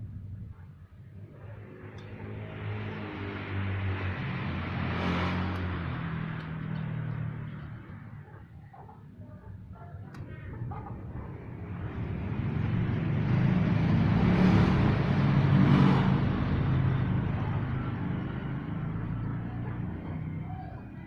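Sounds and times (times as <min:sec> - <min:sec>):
vehicle passing by: 0:01.2 - 0:21.0.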